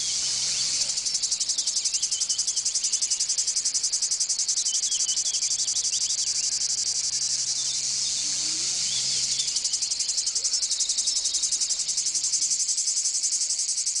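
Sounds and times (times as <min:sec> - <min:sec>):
faint bird chirps: 0:00.0 - 0:14.0
insects singing in pulses: 0:00.0 - 0:14.0.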